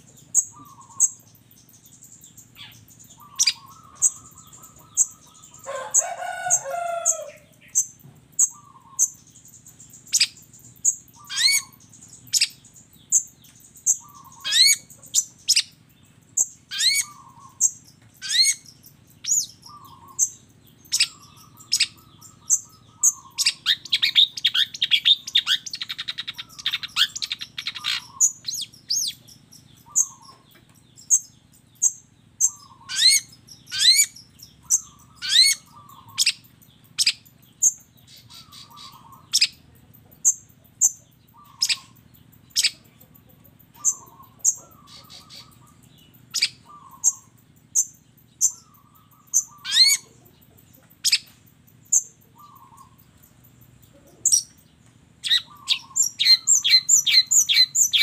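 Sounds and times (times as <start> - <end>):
bird chattering: 0.0 - 58.0.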